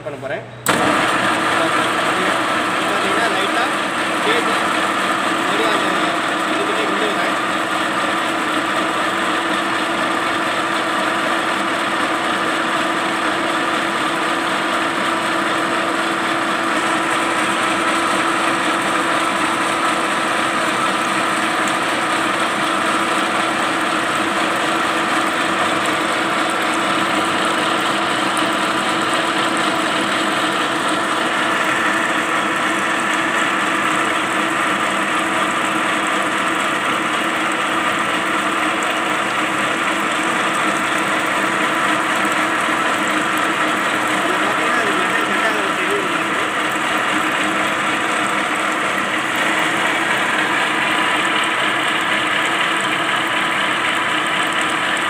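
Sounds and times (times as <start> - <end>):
lathe motor hum and whine: 0.6 - 55.0.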